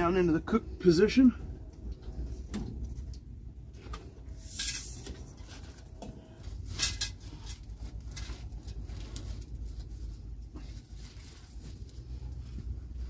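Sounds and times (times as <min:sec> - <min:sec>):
low steady rumble: 0:00.0 - 0:13.0
scraping rustle: 0:02.0 - 0:13.0.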